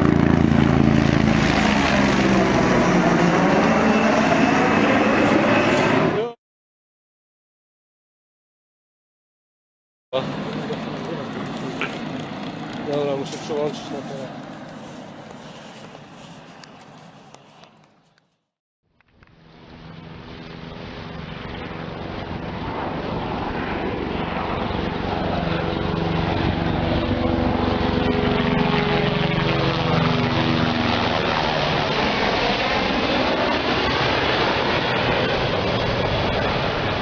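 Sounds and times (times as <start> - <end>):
helicopter passing low: 0.0 - 6.4, 10.2 - 18.1, 19.0 - 37.0.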